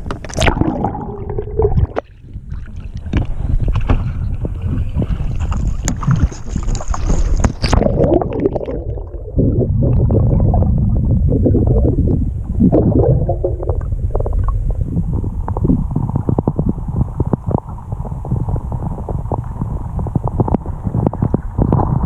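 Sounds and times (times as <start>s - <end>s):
underwater rumbling and gurgling: 0.0s - 22.0s
water splashing against camera: 0.0s - 22.0s.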